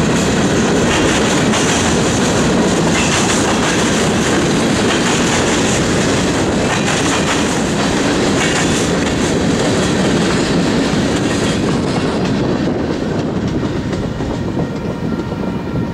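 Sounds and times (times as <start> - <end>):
freight train wheels clacking: 0.0 - 15.9.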